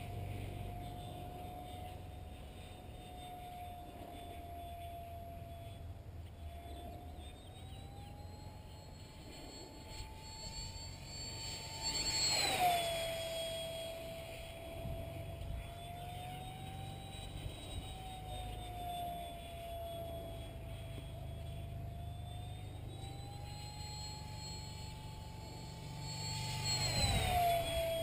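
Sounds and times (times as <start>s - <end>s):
electric ducted fan whine: 0.0s - 28.0s.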